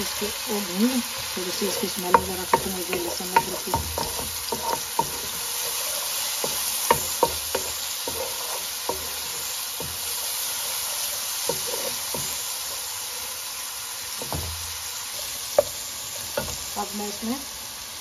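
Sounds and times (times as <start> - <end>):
wooden spoon scraping a wok: 0.0 - 17.2
onions sizzling in hot oil: 0.0 - 18.0.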